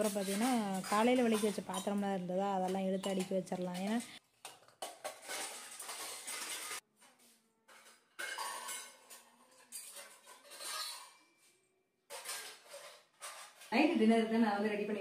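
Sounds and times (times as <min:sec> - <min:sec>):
metal utensils clinking and clattering: 0:00.0 - 0:11.5, 0:12.1 - 0:14.2.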